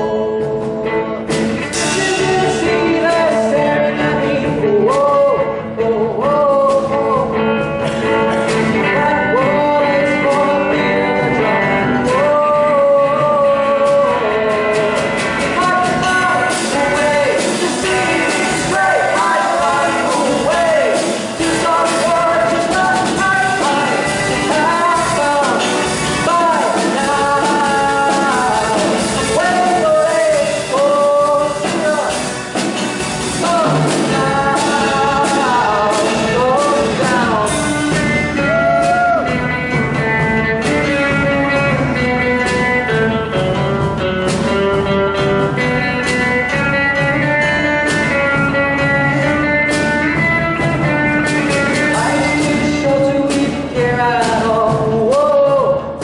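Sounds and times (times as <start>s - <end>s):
instrumental rock band: 0.0s - 56.0s.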